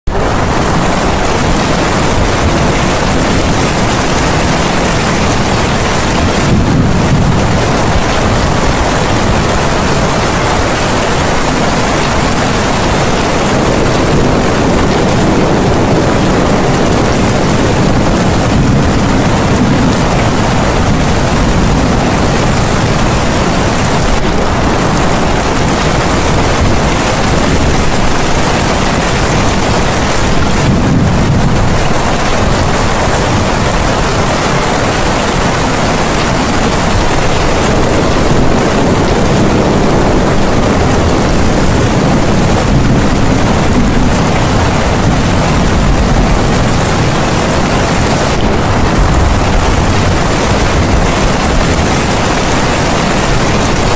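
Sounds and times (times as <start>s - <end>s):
rain-like rushing noise: 0.0s - 53.9s.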